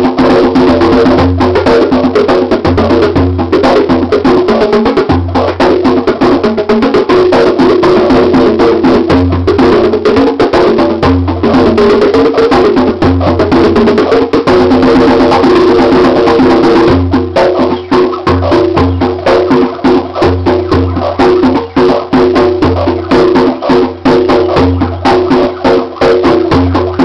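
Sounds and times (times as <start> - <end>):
drum machine beat: 0.0 - 27.0
hand drumming on bongos: 0.0 - 27.0.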